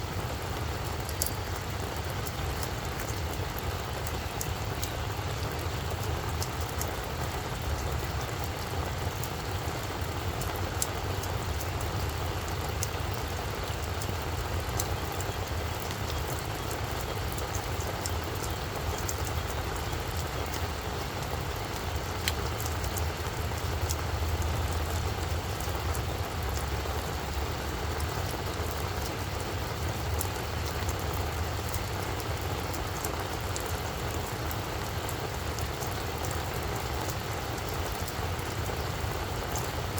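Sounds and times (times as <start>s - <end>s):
rain hissing on plants: 0.0s - 39.9s
raindrops ticking sharply: 0.0s - 39.9s.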